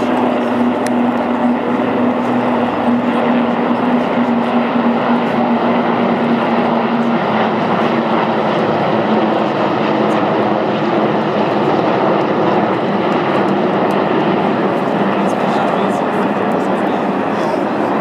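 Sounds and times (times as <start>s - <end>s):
helicopters flying past: 0.0s - 18.0s.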